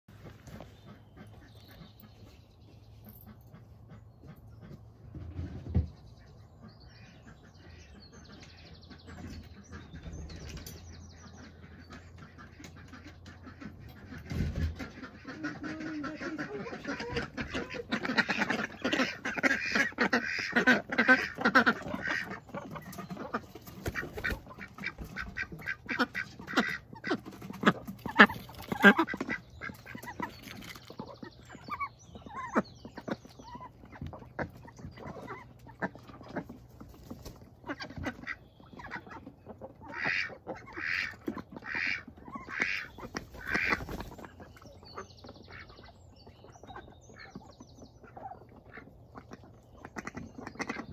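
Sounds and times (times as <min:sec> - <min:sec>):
ducks quacking: 0:00.1 - 0:50.9.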